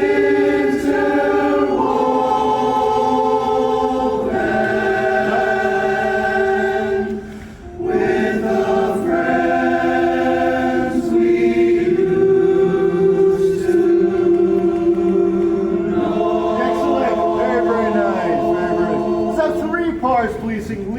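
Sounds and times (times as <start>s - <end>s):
a cappella chorus singing: 0.0s - 20.6s.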